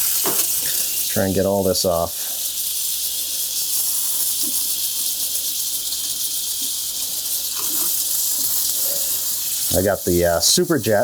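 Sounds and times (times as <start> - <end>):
faucet water running into sink: 0.0 - 11.0.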